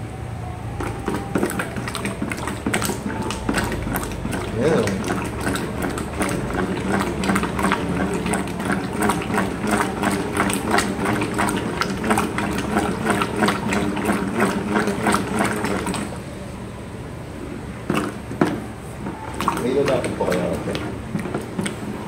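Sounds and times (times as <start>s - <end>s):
stick stirring thick mix in pail: 0.7s - 16.3s, 17.8s - 22.0s.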